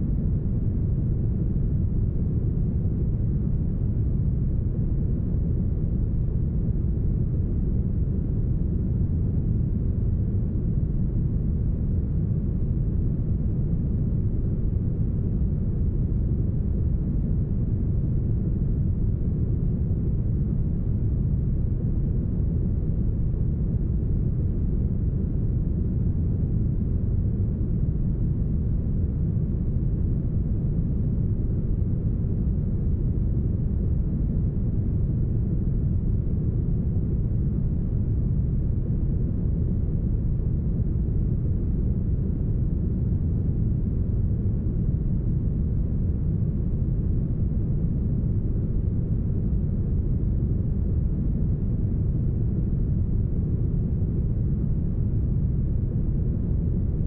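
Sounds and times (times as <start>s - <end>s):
brown noise low rumble: 0.0s - 57.0s.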